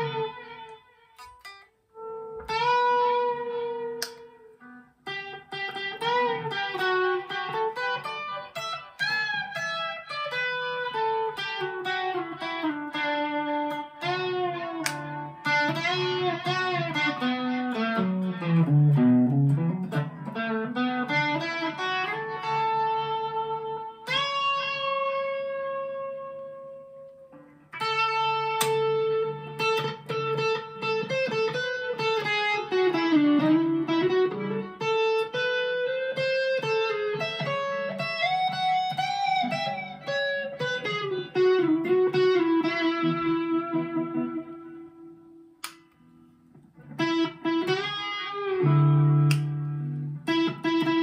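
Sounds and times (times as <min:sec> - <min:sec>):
electric guitar lead lines: 0:00.0 - 0:51.0.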